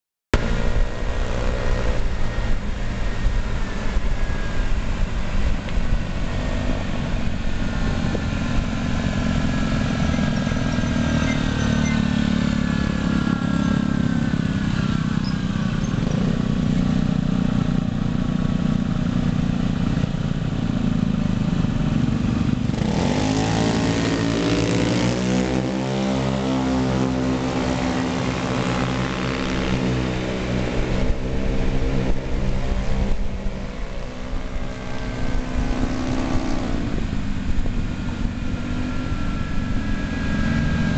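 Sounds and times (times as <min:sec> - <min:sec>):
wind rumble on microphone: 0:00.4 - 0:25.8, 0:26.7 - 0:40.9
scooter engines buzzing: 0:00.4 - 0:40.9.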